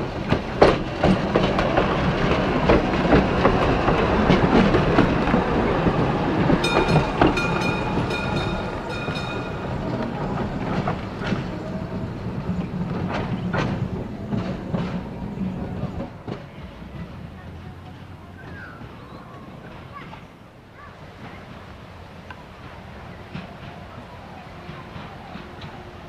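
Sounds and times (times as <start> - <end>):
tram wheels rumbling and clicking: 0.0 - 26.0.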